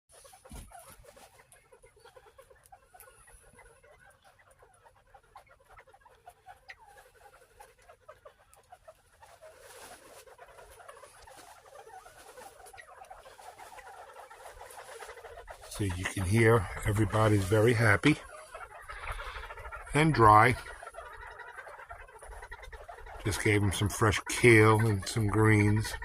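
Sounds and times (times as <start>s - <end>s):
quail chirping calls: 0.1s - 26.0s.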